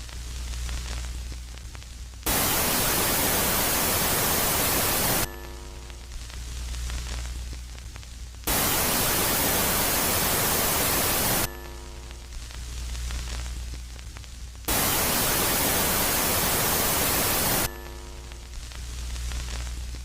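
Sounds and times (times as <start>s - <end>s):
loud static hiss: 0.0s - 20.0s
low hum with faint hiss: 0.0s - 20.0s.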